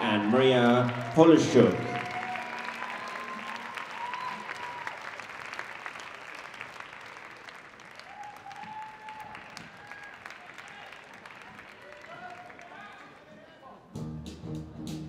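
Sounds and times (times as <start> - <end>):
audience applause: 0.0 - 13.3.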